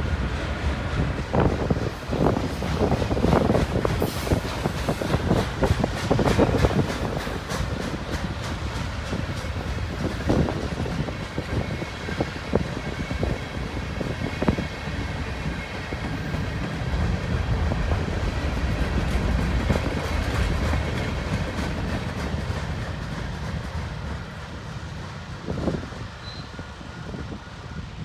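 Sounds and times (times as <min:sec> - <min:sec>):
train cars clanking: 0:00.0 - 0:27.4
train wheels rumbling on rails: 0:00.0 - 0:28.0.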